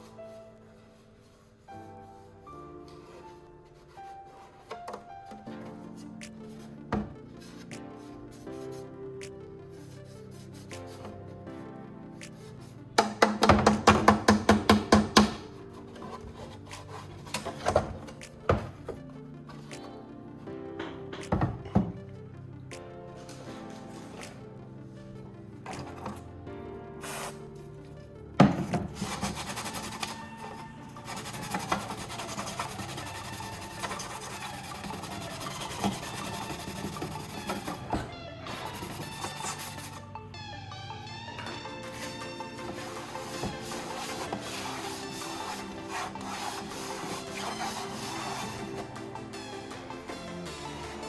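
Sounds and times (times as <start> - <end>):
background music: 0.0 - 51.0.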